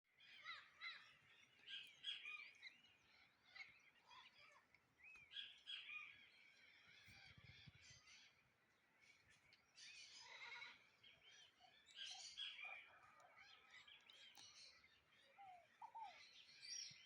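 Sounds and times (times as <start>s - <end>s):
small birds chirping and trilling: 0.1s - 17.0s.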